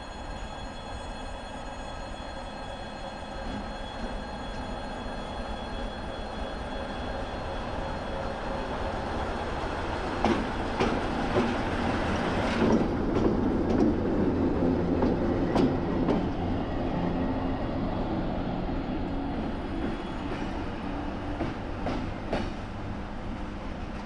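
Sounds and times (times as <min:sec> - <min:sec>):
diesel locomotive engine droning: 0:00.0 - 0:24.0.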